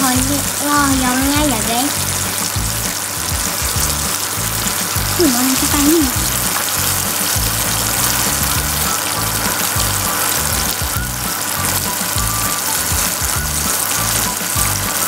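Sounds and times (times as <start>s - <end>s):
background music: 0.0s - 15.0s
chicken deep-frying in oil: 0.0s - 15.0s.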